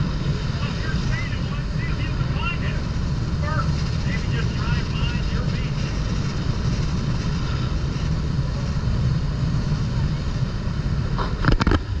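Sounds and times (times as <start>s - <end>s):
motorboat engine rumbling: 0.0s - 12.0s
wind and water hiss: 0.0s - 12.0s.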